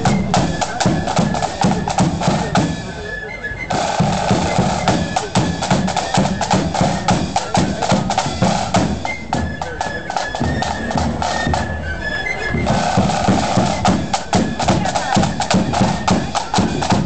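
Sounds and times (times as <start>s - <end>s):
snare and bass drum beats: 0.0s - 3.1s, 3.7s - 11.8s, 12.6s - 17.0s
thin high melody line: 0.0s - 13.9s.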